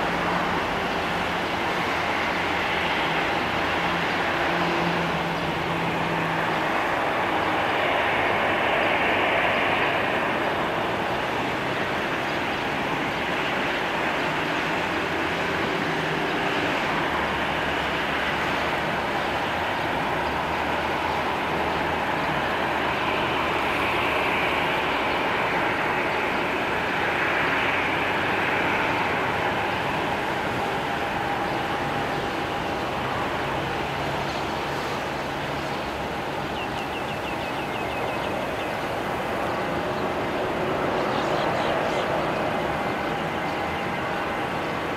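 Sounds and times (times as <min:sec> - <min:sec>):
jet engines idling: 0:00.0 - 0:44.9.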